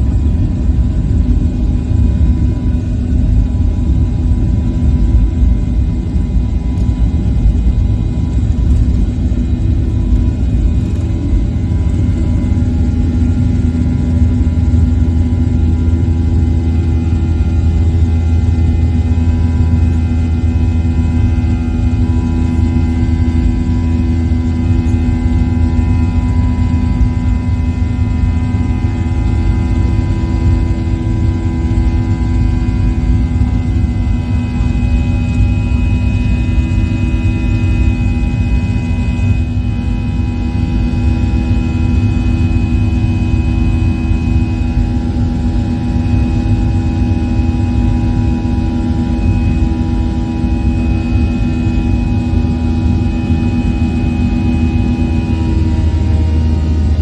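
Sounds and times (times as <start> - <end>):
airliner engines rumbling in cabin: 0.0 - 57.0.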